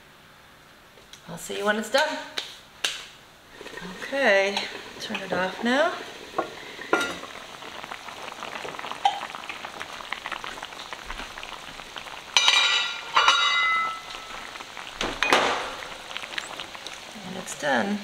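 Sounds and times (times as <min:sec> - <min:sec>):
sauce bubbling and crackling: 0:03.4 - 0:18.0.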